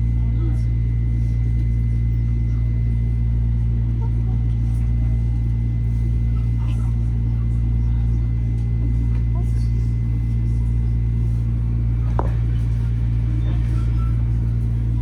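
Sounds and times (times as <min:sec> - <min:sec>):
train low rumble and hum: 0:00.0 - 0:15.0.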